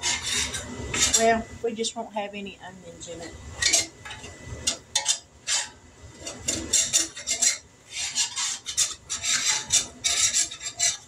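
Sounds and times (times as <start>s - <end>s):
utensil scraping in skillet: 0.0s - 1.4s, 3.5s - 11.0s.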